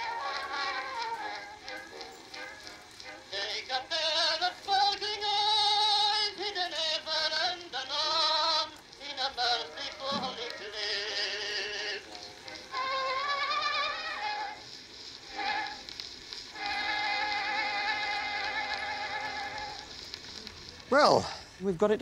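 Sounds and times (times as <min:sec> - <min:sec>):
old phonograph recording of singer: 0:00.0 - 0:21.7.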